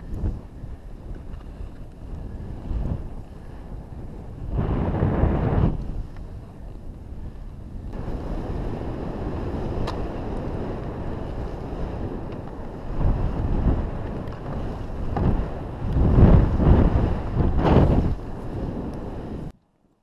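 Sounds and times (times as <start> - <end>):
skis carving through snow: 0.0 - 19.5
wind rushing over microphone: 0.0 - 19.6.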